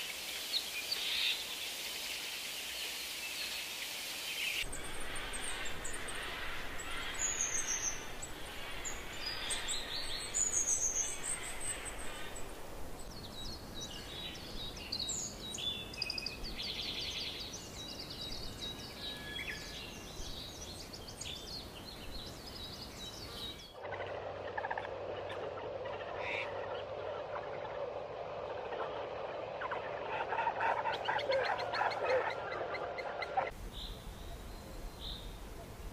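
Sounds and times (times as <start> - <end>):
wild birds chirping: 0.0 - 35.9.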